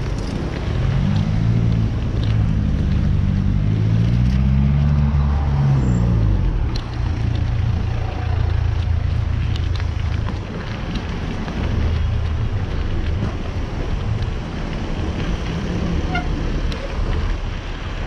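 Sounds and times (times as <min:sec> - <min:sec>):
car traffic rumble: 0:00.0 - 0:18.0.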